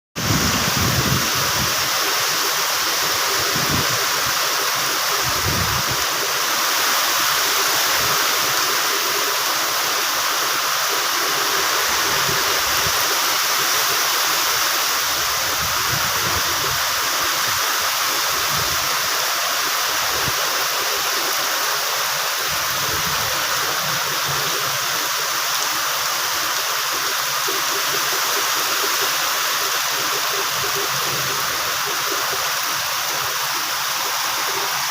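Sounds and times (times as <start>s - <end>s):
water rushing and splashing: 0.2s - 34.9s.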